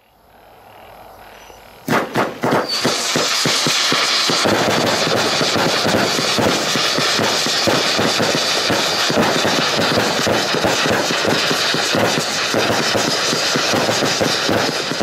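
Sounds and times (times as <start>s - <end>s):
firework fuse hiss: 1.9s - 15.0s
firework launches and crackling bursts: 1.9s - 15.0s.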